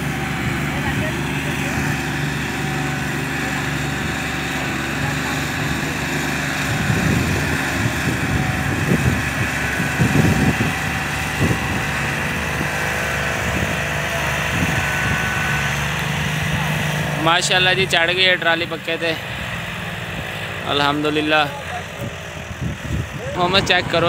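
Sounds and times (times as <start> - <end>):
low rumbles: 0.0 - 24.0
tractor diesel engines droning: 0.0 - 24.0.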